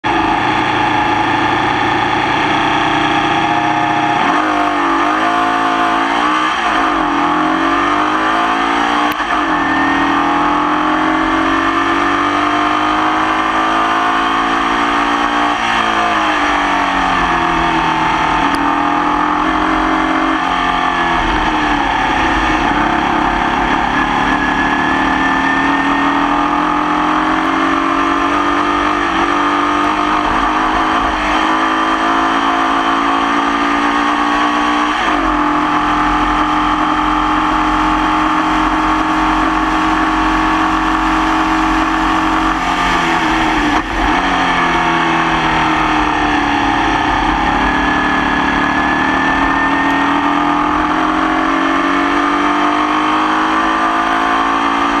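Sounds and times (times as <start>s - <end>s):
race car engine revving with misfire: 0.0s - 55.0s.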